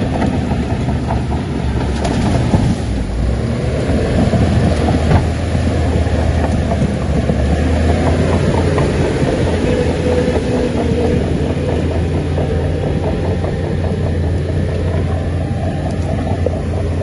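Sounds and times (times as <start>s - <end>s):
crawler tracks clattering: 0.0s - 17.0s
diesel engine humming: 0.0s - 17.0s.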